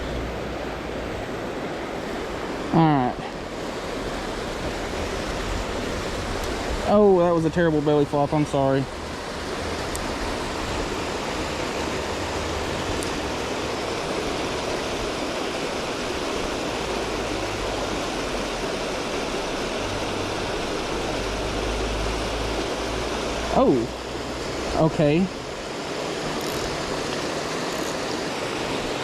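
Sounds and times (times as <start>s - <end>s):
water rushing over dam: 0.0s - 29.0s.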